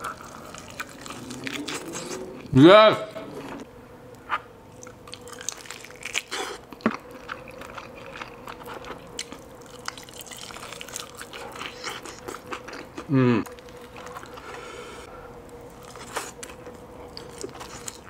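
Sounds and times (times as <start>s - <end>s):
chewing fried food: 0.0s - 2.5s, 4.7s - 14.7s, 15.4s - 18.0s
faint steady hum: 0.0s - 18.0s.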